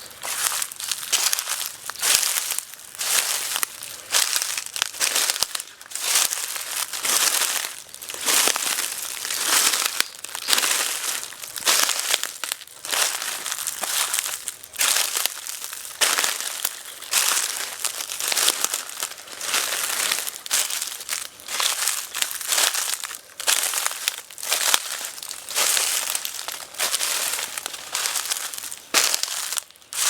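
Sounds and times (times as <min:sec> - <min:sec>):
footsteps in dry leaves: 0:00.0 - 0:30.0.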